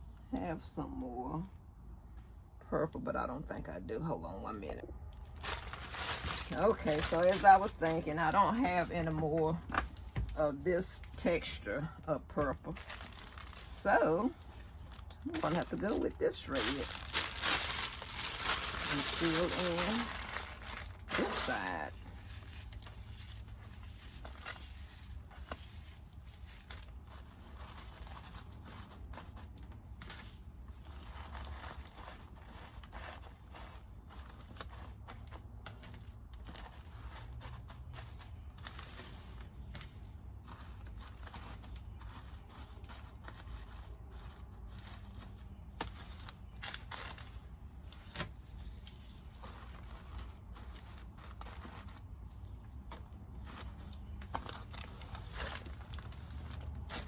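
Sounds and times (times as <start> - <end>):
basket shred crinkling: 5.0 - 9.2, 12.5 - 57.0.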